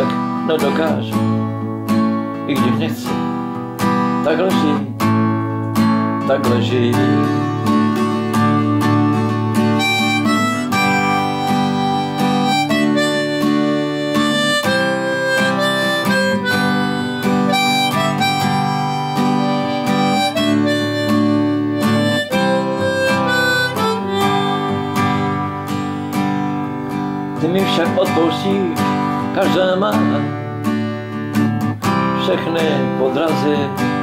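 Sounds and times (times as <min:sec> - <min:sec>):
strummed acoustic guitar: 0:00.0 - 0:34.0
harmonica melody: 0:03.0 - 0:34.0.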